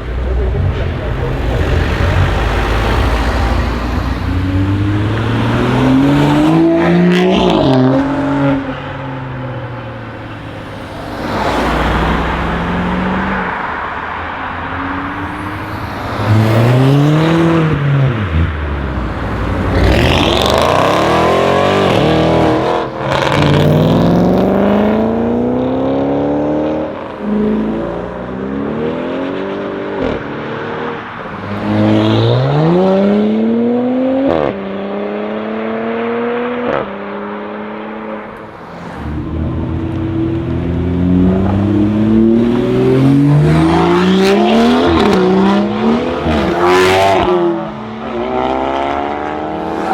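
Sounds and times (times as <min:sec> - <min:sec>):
car engine accelerating: 0:00.0 - 0:30.7, 0:31.6 - 0:49.9.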